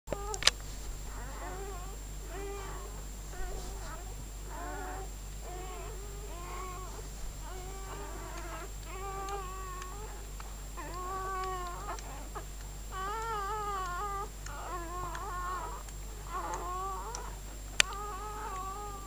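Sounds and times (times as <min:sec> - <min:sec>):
newborn puppy crying: 0:00.1 - 0:00.5, 0:01.1 - 0:19.0.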